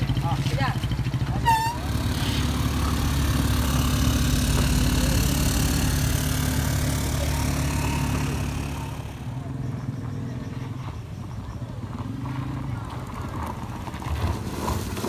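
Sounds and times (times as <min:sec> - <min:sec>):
vehicle engines droning: 0:00.0 - 0:15.0.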